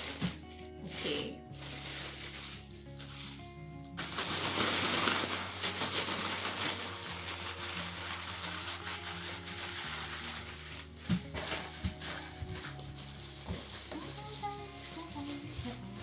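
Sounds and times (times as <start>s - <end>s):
plastic bag crinkling: 0.0s - 16.0s
soft background music: 0.0s - 16.0s.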